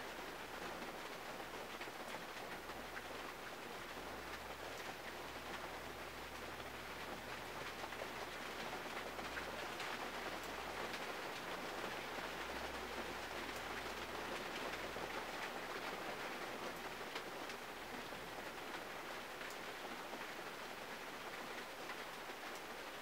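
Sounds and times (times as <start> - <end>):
rain hissing on car: 0.1 - 23.0.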